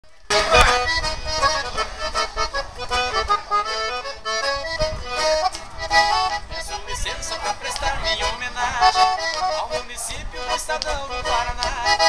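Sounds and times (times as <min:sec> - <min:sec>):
accordion melody: 0:00.1 - 0:12.0.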